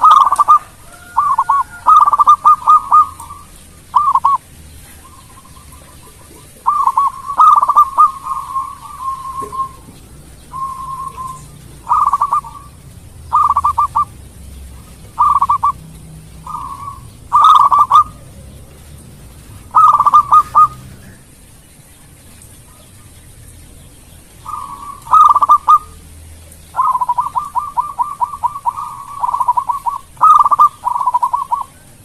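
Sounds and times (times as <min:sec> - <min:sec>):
dove cooing trills: 0:00.0 - 0:21.4, 0:24.4 - 0:26.1, 0:26.7 - 0:32.0.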